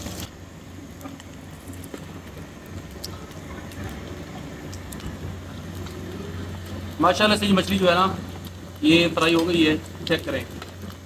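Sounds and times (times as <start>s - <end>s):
fish sizzling in oil: 0.0s - 11.0s
gas burner low rumble: 0.0s - 11.0s.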